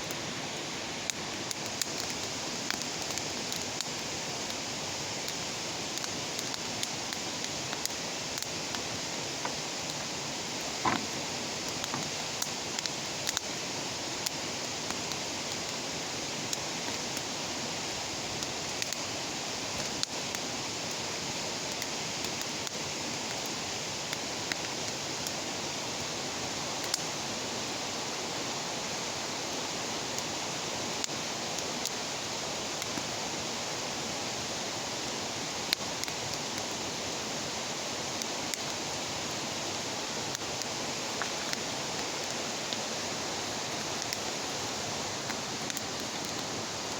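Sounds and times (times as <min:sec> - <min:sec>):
bonfire crackling and hissing: 0:00.0 - 0:46.9.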